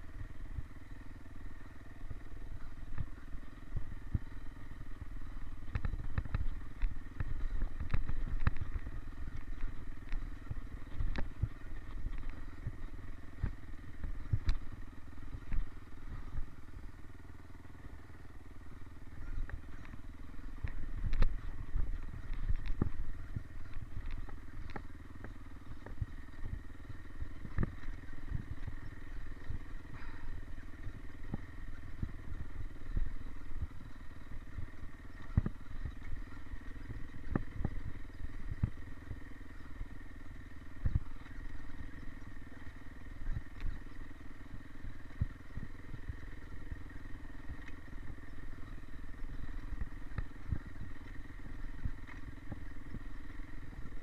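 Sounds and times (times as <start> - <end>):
bike knocking and rattling: 0.0 - 54.0
dirt bike engine running: 0.0 - 54.0.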